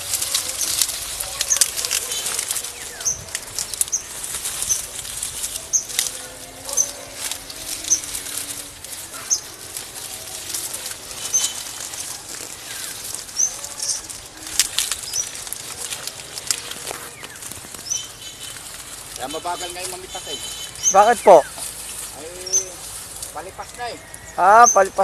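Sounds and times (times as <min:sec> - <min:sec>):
footsteps through rustling plants: 0:00.0 - 0:25.0.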